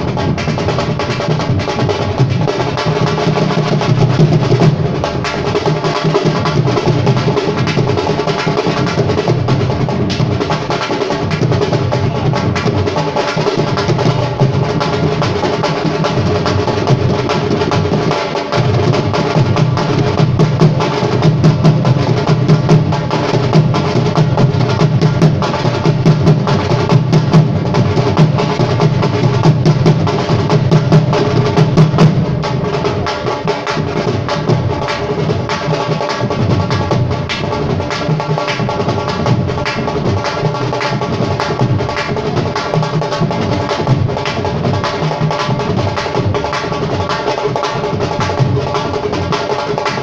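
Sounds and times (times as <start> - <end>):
fast dense drumming: 0.0 - 50.0.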